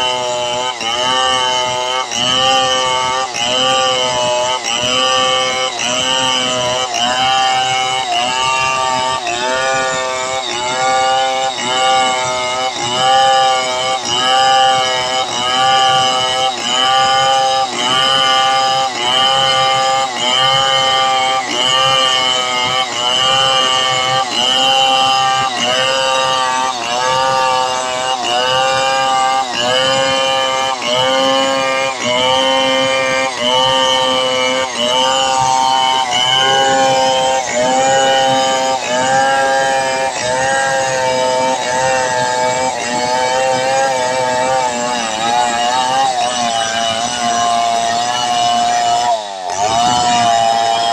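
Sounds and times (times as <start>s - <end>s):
chainsaw cutting log: 0.0s - 50.9s.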